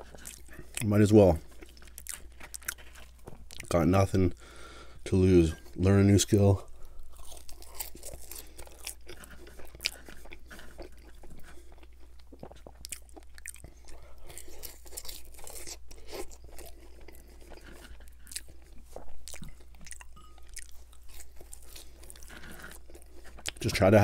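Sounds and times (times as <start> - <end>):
person chewing crunchy fries: 0.0 - 5.0, 5.6 - 24.0.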